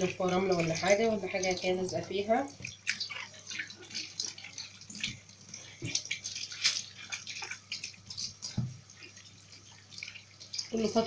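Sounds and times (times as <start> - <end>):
hands scrubbing tomatoes in water: 0.0 - 11.0
water splashing and sloshing: 0.0 - 11.0.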